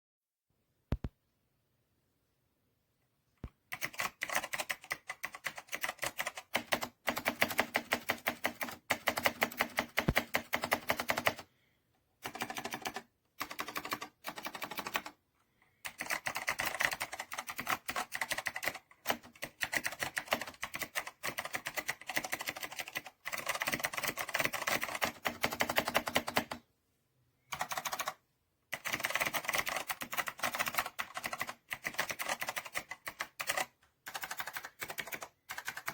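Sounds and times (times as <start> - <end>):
mechanical keyboard typing: 3.7 - 11.5, 12.2 - 15.2, 15.8 - 26.6, 27.5 - 35.9.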